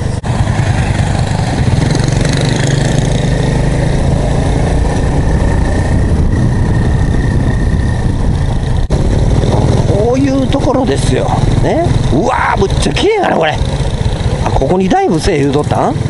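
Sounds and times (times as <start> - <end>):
motorcycle engine running: 0.0 - 16.0
road noise: 0.0 - 16.0.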